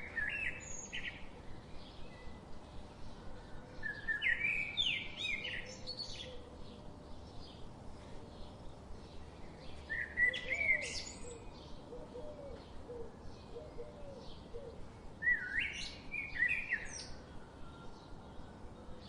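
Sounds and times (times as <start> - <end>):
birds singing and chirping: 0.0 - 19.0.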